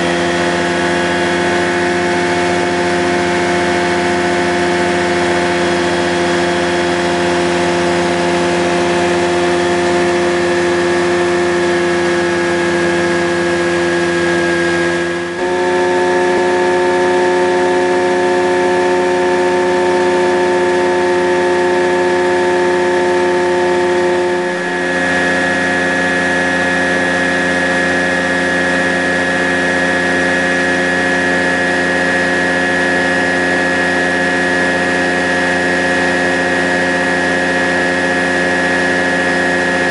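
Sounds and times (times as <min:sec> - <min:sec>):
ultralight aircraft engine drone: 0:00.0 - 0:39.9.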